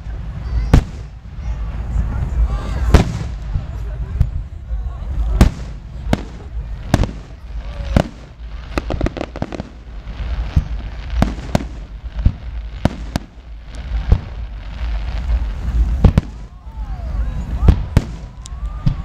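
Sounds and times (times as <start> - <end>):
fireworks bangs and crackles: 0.0 - 19.0
steady low rumble: 0.0 - 19.0.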